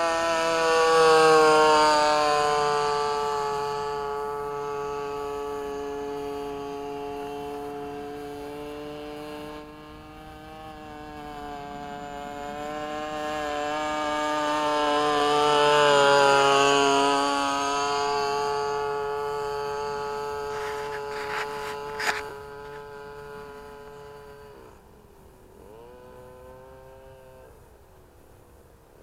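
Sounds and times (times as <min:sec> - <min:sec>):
model plane engine drone: 0:00.0 - 0:29.0.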